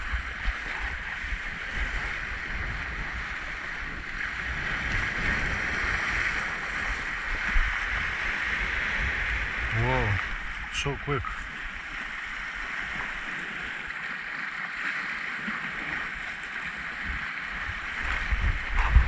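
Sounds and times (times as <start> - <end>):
wind buffeting the microphone: 0.0 - 14.0, 15.4 - 19.0
surf washing over rocks: 0.0 - 19.0.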